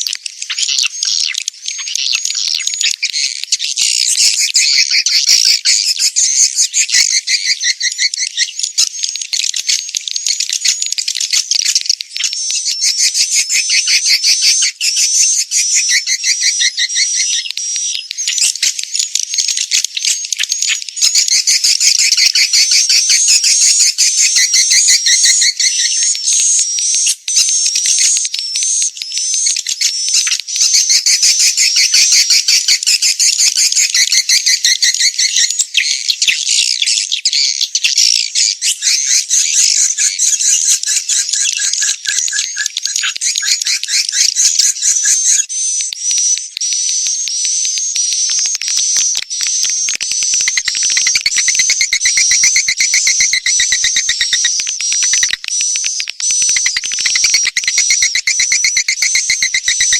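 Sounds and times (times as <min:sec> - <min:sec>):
swiftlets twittering chirps: 0:00.0 - 0:59.9.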